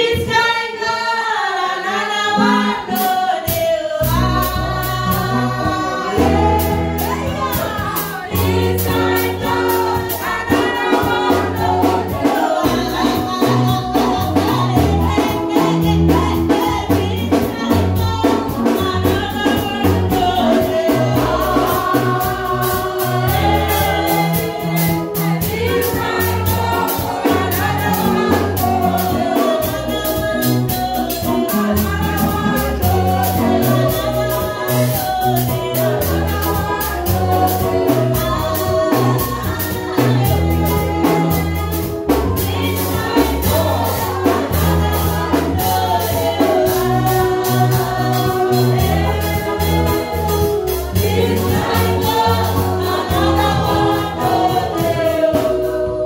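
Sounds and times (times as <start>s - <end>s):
choir singing: 0.0s - 56.0s
steady beat: 3.0s - 56.0s
bass notes: 3.8s - 56.0s.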